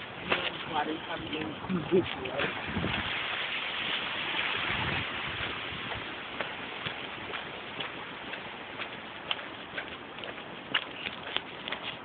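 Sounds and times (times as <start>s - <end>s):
tyres hissing on wet street: 0.0s - 10.9s
footsteps on wet pavement: 0.0s - 12.0s.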